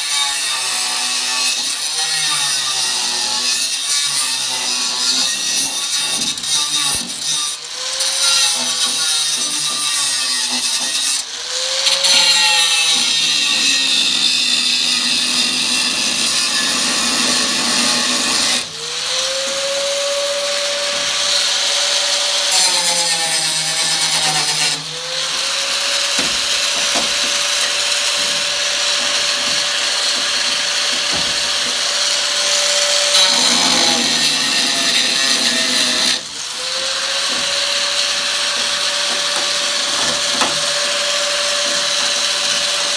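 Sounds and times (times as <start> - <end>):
power tool whining on sheet steel: 0.0 - 42.9.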